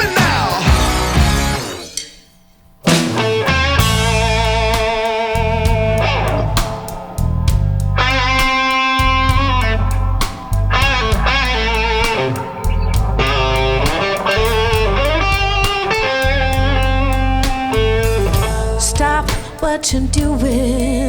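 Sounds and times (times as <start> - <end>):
rock band playing: 0.0 - 2.0, 2.8 - 20.6.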